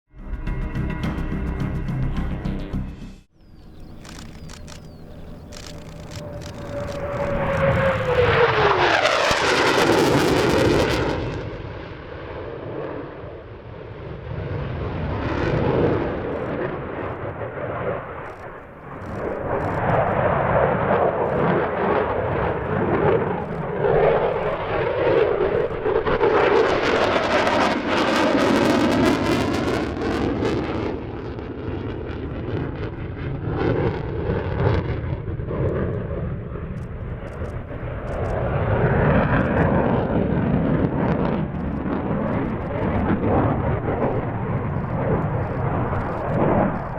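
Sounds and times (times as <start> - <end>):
jet fighter passing: 3.4 - 46.9.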